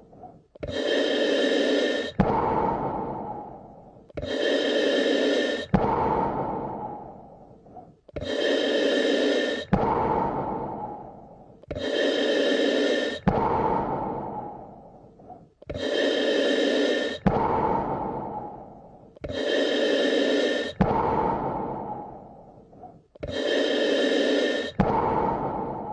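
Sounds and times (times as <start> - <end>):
slow deep breathing: 0.0 - 25.9.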